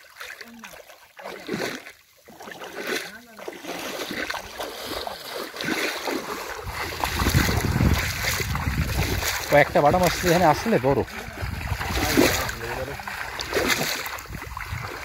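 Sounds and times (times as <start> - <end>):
muddy water sloshing and splashing: 0.0 - 15.0.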